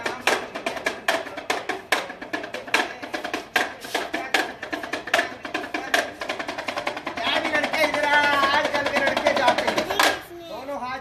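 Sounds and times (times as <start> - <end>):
small hand drum rattling: 0.0 - 10.3.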